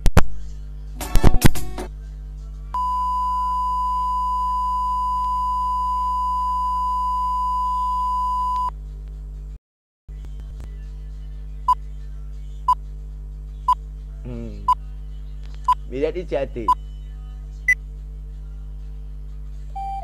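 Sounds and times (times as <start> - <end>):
low constant hum: 0.1 - 20.0.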